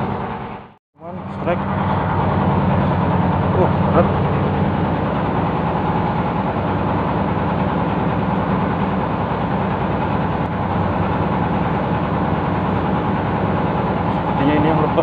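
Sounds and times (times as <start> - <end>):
small engine idling: 0.0 - 15.0.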